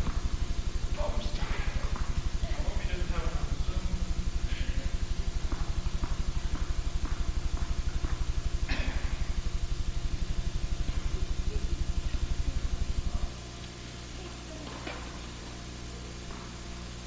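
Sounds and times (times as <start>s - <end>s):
loud low pulsing hum: 0.0s - 17.0s.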